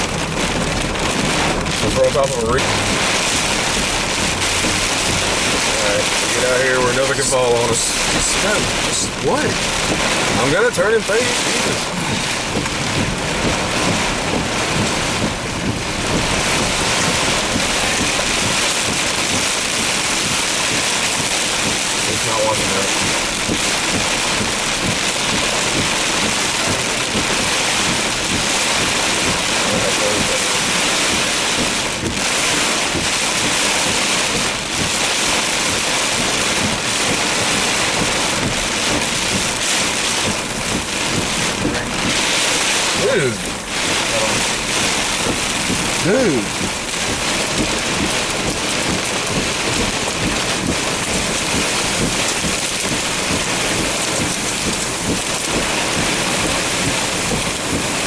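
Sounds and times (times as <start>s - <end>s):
heavy rain and wind on car roof: 0.0s - 58.0s.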